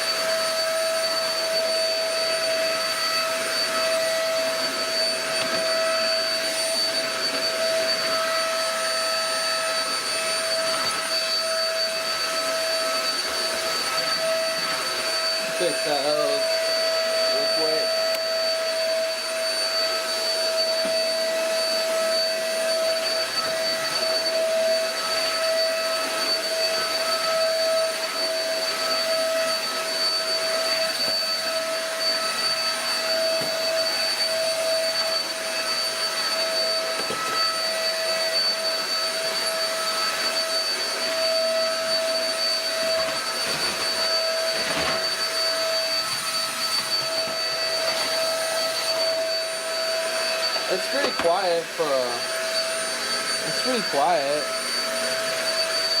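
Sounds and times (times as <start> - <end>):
stick vacuum motor whine: 0.0 - 56.0.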